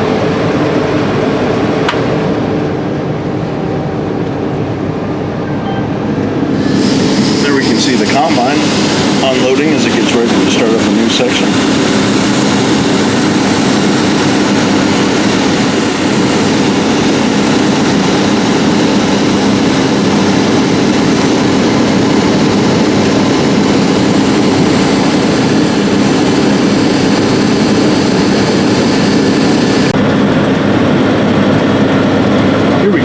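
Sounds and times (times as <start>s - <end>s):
combine harvester machinery drone: 0.0s - 33.0s.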